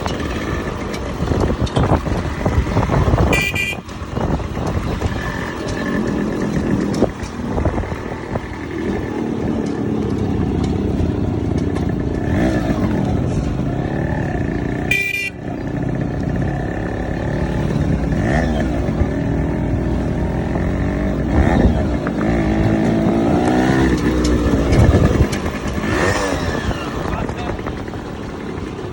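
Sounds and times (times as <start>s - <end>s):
two-stroke motorcycle engine: 0.0s - 28.9s.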